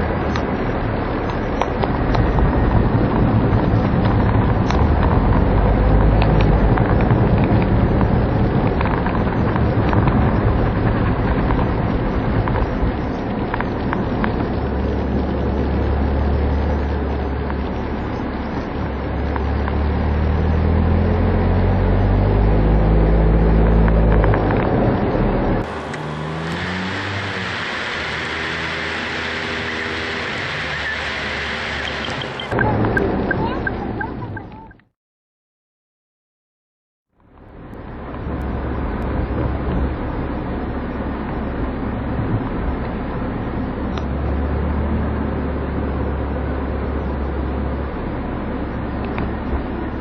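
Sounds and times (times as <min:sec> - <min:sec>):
car engine: 0:00.0 - 0:34.6, 0:37.2 - 0:50.0
road rumble: 0:00.0 - 0:34.9, 0:37.1 - 0:50.0.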